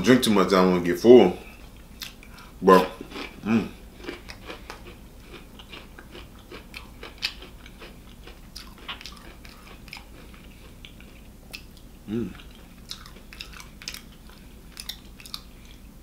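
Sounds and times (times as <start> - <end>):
chewing smacks: 1.6 - 15.9.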